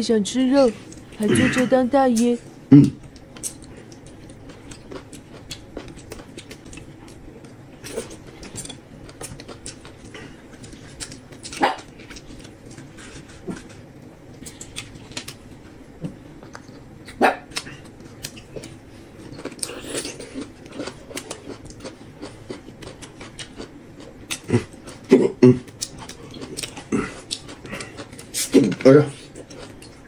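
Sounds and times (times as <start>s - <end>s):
chewing and mouth noises: 2.2s - 30.0s.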